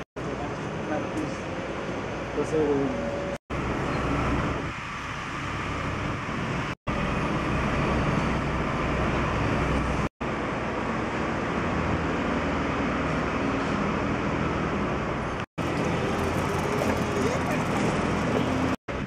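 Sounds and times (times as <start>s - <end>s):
passing traffic rumble: 0.0s - 19.0s.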